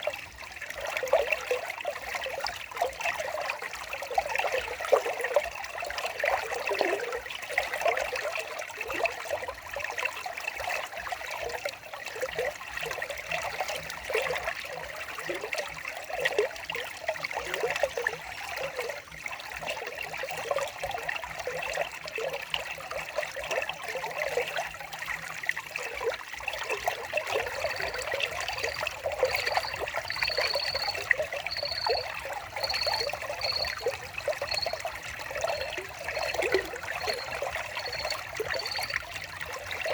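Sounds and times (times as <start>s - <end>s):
water babbling over stones: 0.0s - 39.9s.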